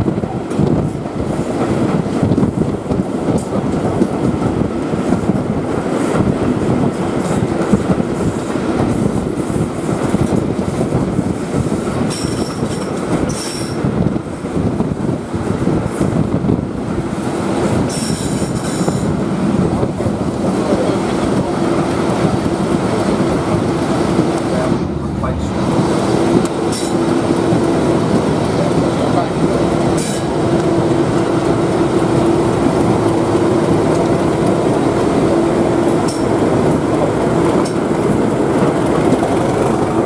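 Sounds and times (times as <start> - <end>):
wheels clattering on rails: 0.0 - 40.0.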